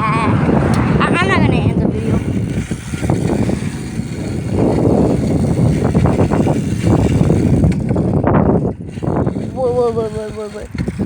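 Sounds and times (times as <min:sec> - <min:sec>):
gusty wind rumble on microphone: 0:00.0 - 0:11.0.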